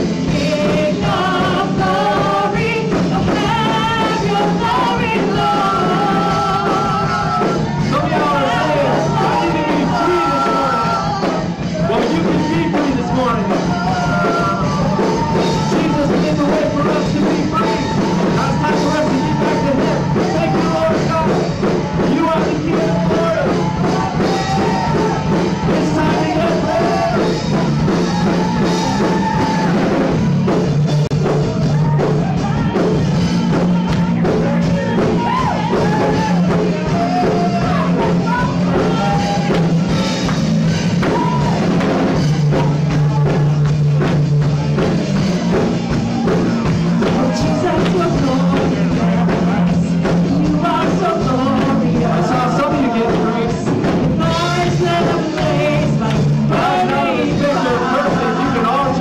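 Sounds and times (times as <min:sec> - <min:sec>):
vocalists singing into microphones: 0:00.0 - 0:30.3, 0:31.6 - 0:40.4, 0:45.9 - 0:59.0
band playing worship music: 0:00.0 - 0:59.0.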